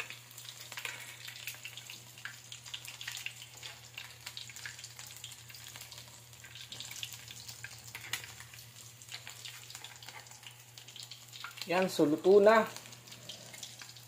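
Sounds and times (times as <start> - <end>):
frying in hot oil: 0.0 - 14.0.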